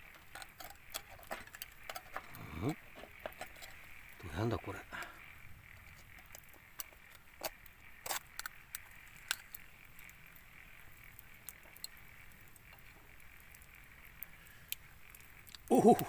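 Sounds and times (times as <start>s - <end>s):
oysters popping on a fire: 0.0s - 16.0s.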